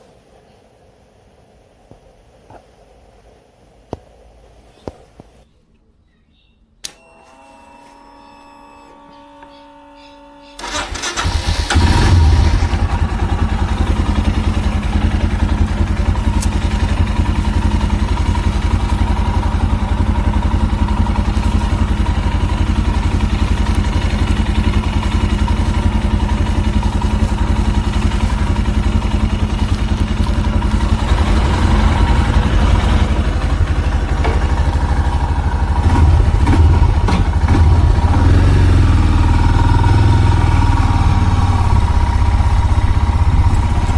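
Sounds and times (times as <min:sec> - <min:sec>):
engine starting and running: 0:06.8 - 0:43.9.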